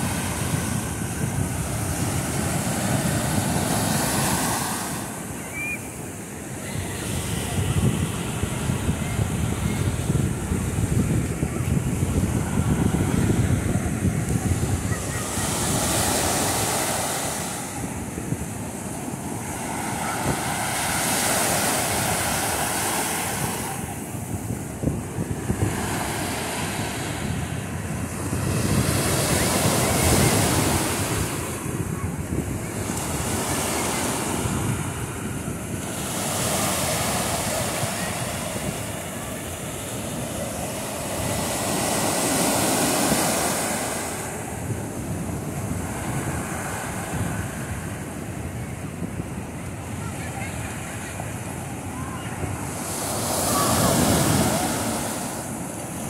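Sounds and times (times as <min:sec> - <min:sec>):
waves breaking on sand: 0:00.0 - 0:56.0.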